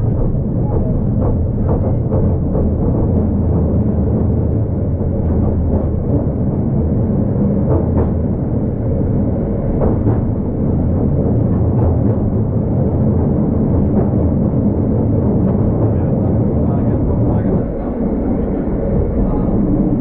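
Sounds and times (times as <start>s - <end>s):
sharp tram clacks: 0.0s - 20.0s
tram rumbling: 0.0s - 20.0s.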